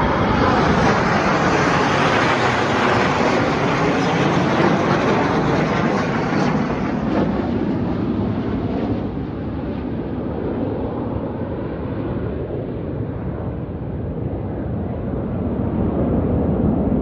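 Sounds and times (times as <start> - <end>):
jet aircraft roar: 0.0 - 17.0.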